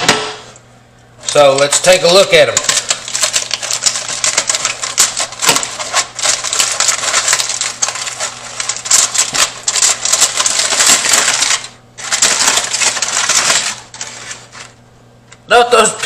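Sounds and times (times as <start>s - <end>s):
aluminum foil crinkling: 1.2s - 14.8s.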